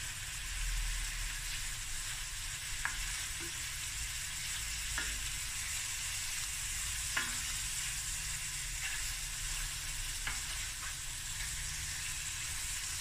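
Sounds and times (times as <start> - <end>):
fish and vegetables sizzling in pan: 0.0 - 13.0.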